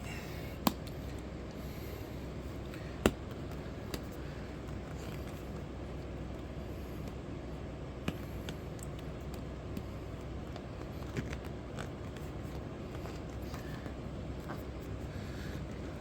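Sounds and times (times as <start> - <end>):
room noise hum: 0.0 - 16.0.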